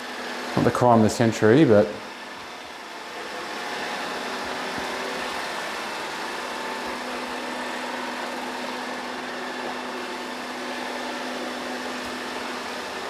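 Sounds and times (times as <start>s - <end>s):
robot vacuum whirring hum: 2.0s - 13.0s.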